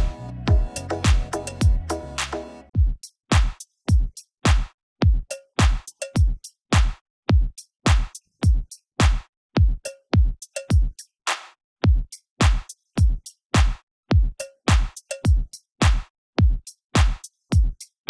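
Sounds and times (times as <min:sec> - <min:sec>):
drum machine beat: 0:00.0 - 0:11.0, 0:11.8 - 0:17.9.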